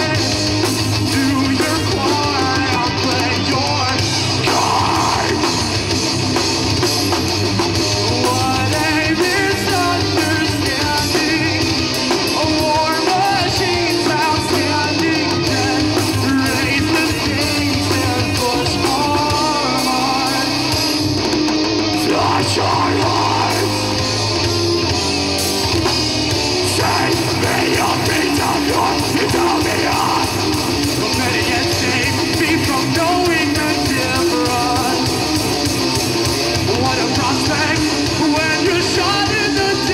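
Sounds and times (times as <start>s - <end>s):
person singing: 0.0s - 5.6s, 8.1s - 20.8s, 21.9s - 24.0s, 26.6s - 35.2s, 36.6s - 39.9s
heavy metal band playing: 0.0s - 39.9s.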